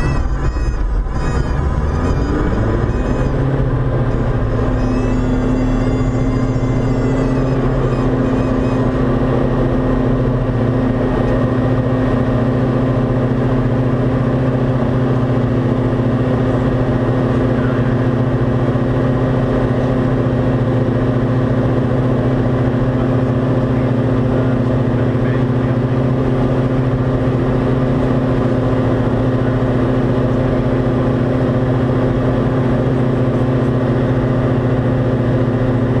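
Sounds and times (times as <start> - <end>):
airplane engine drone in cockpit: 0.0 - 36.0.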